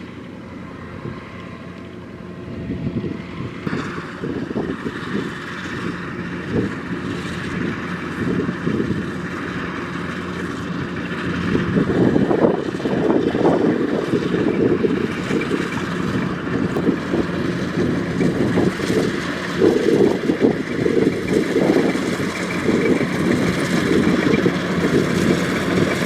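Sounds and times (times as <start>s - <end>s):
combine harvester engine drone: 0.0s - 26.0s
rough mechanical rattle: 3.6s - 26.0s.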